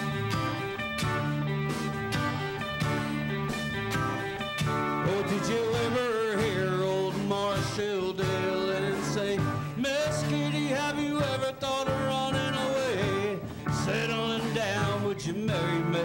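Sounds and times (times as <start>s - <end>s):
country band playing: 0.0s - 16.0s
sliding lead guitar melody: 0.0s - 16.0s.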